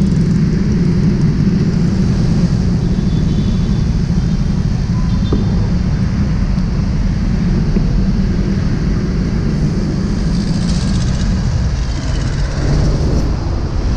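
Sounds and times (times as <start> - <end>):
motorcycle engine running: 0.0 - 13.8
street traffic: 0.0 - 13.9.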